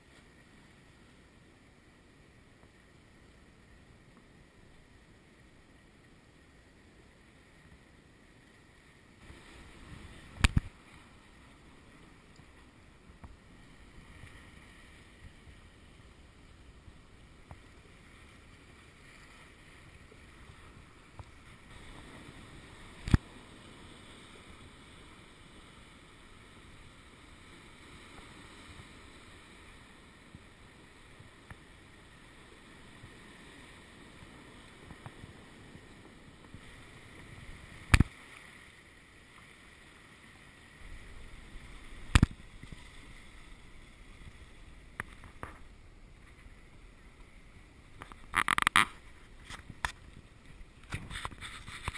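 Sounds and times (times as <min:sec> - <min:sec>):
kayak paddle splashes: 0:02.4 - 0:51.9.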